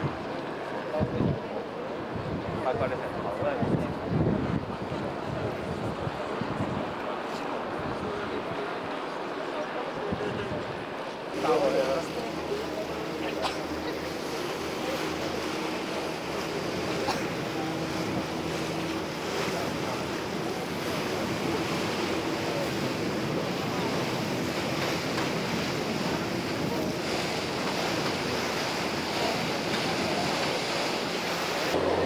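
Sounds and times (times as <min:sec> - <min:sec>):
water washing past hull: 0:00.0 - 0:32.0
wind rushing over microphone: 0:00.9 - 0:08.8, 0:14.2 - 0:32.0.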